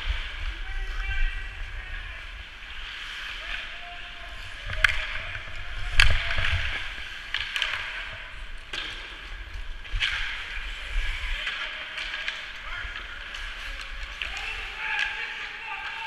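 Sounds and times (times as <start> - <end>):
hockey sticks and puck clacking: 2.8 - 16.0.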